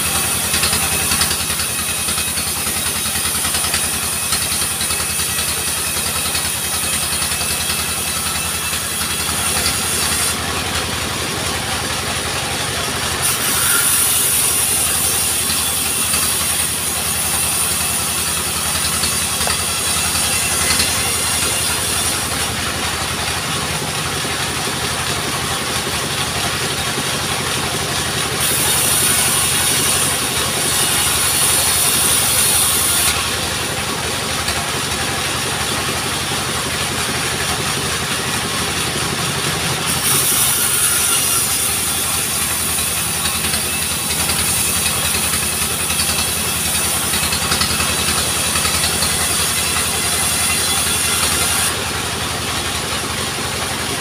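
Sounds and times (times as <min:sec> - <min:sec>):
saw cutting through wood: 0:00.0 - 0:54.0
sawmill engine running: 0:00.0 - 0:54.0.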